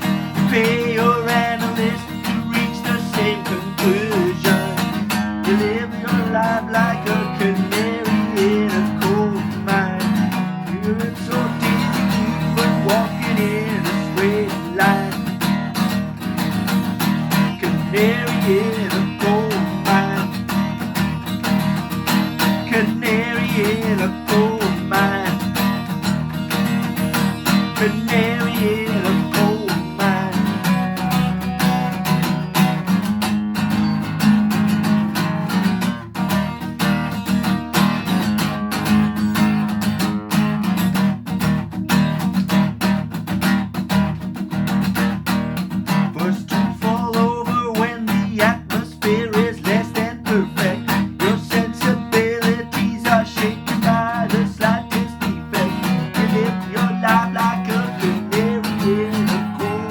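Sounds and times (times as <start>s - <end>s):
acoustic guitar strumming: 0.0s - 59.9s
picked guitar melody: 0.0s - 59.9s.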